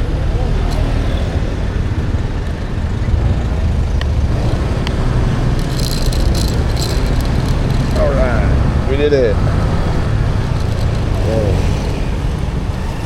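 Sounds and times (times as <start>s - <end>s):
road noise: 0.0s - 13.0s
scooter engine: 0.7s - 13.0s.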